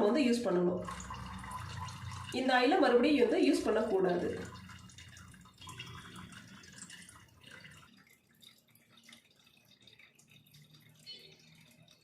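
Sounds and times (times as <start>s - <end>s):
oil trickling into a bottle: 0.7s - 12.0s.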